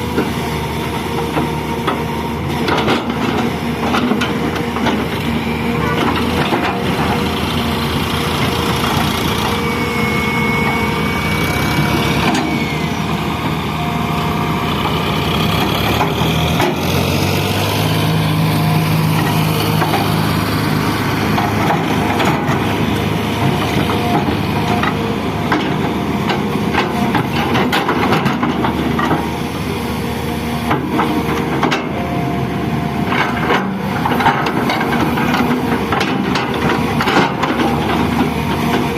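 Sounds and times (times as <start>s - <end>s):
excavator engine under load: 0.0s - 38.9s.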